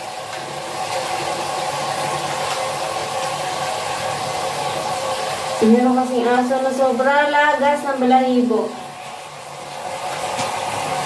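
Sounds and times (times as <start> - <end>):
shower water on tiled floor: 0.0 - 11.0.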